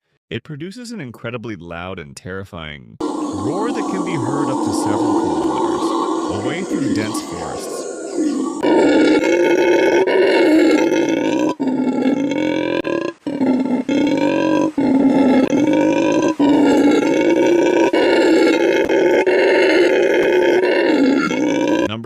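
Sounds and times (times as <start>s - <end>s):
howler monkey roaring: 3.0s - 21.9s.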